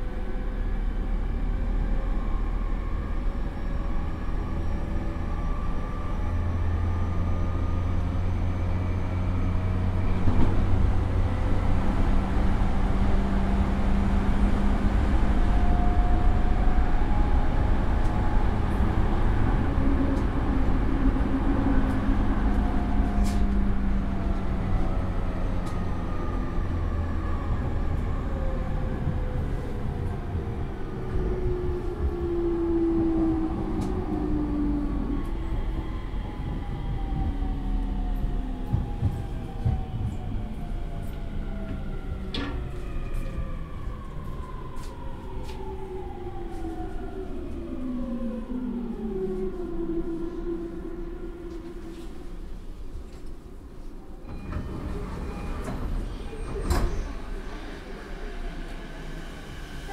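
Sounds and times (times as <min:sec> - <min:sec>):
train inverter and motor whine: 0:00.0 - 0:59.9
wheel and rail rumble: 0:00.0 - 0:59.9.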